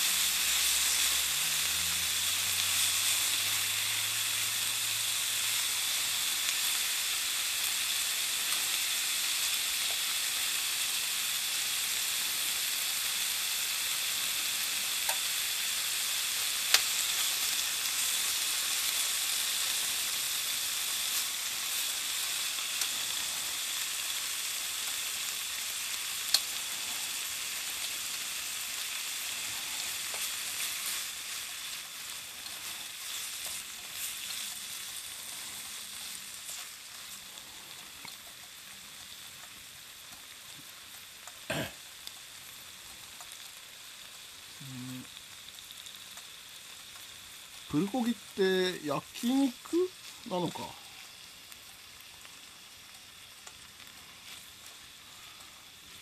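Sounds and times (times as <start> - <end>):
meat sizzling on hot plate: 0.0 - 56.0.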